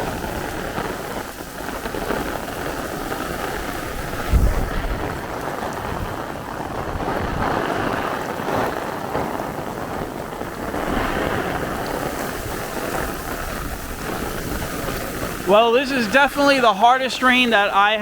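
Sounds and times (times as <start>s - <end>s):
wind buffeting microphone: 0.0s - 17.5s
heavy rain: 0.0s - 18.0s.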